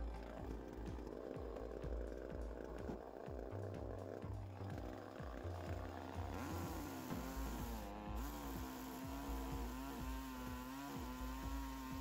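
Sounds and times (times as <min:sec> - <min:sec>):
chainsaw cutting through log: 0:00.0 - 0:12.0.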